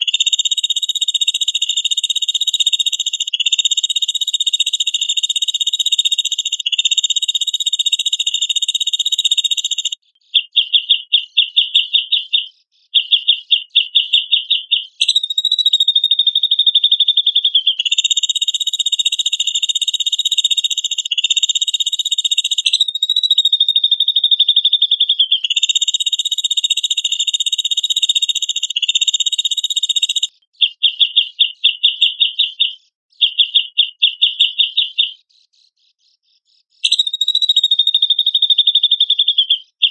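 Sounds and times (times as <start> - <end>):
bird buzzy chatter and trills: 0.0 - 39.9.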